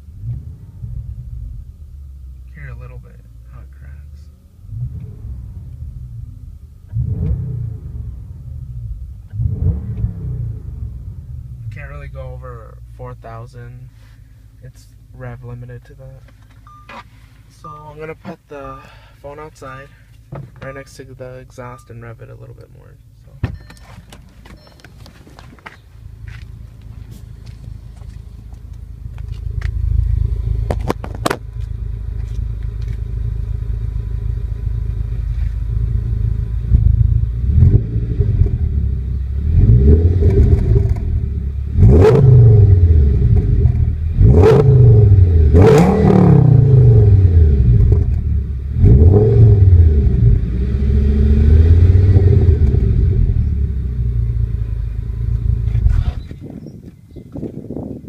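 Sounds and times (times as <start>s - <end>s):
car engine idling and revving: 0.0s - 57.6s.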